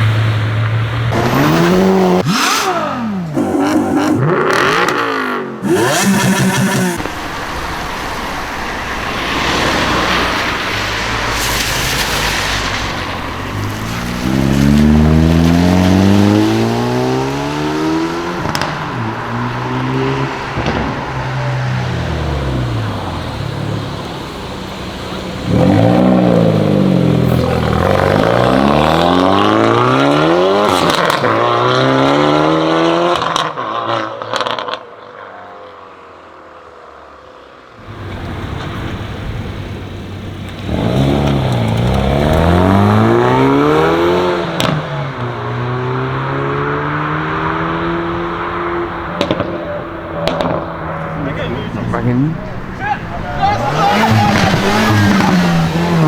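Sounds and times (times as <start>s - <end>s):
car engine revving and accelerating: 0.0s - 34.9s, 37.8s - 56.0s.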